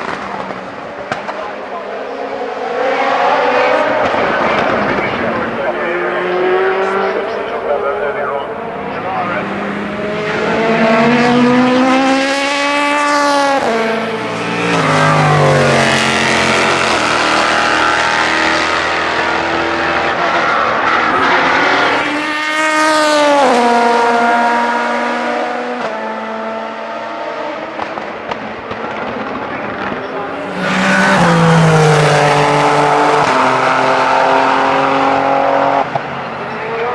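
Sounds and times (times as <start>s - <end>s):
race cars passing at speed: 0.0s - 36.9s
car engine slowing down: 3.1s - 25.3s, 27.8s - 36.6s.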